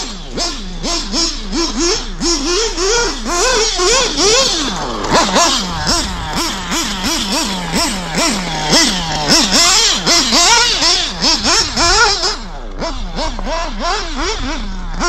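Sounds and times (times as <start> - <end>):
model car engine revving whine: 0.0 - 15.0.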